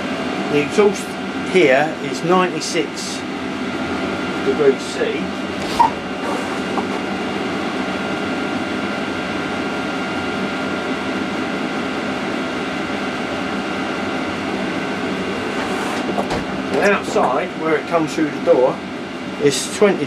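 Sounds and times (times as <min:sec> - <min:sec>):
heater blower fan whirring: 0:00.0 - 0:20.0.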